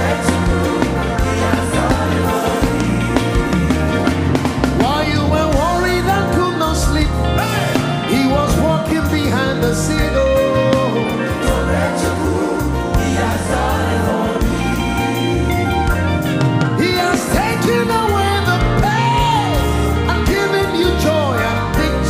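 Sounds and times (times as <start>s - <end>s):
gospel band with bass and drums: 0.0s - 22.0s.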